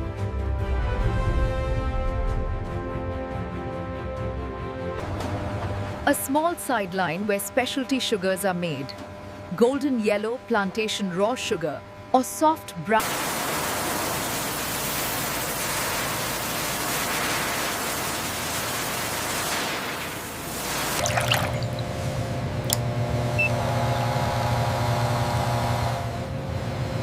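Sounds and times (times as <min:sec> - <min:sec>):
factory machinery humming: 0:05.0 - 0:27.0.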